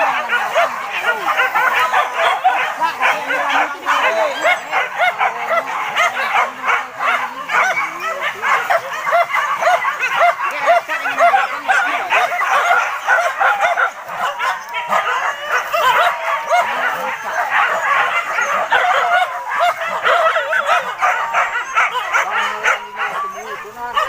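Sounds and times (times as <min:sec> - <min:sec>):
dogs yelping and whining: 0:00.0 - 0:06.5, 0:07.1 - 0:24.0.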